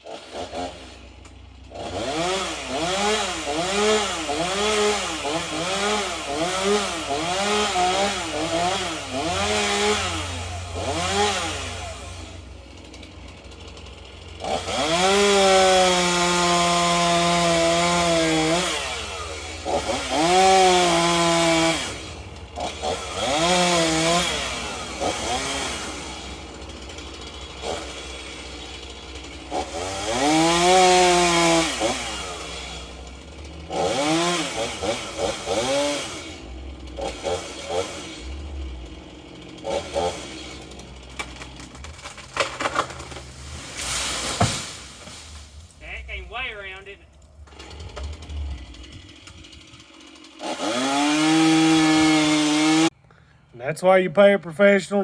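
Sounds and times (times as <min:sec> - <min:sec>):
chainsaw revving and cutting wood: 0:00.0 - 0:53.4.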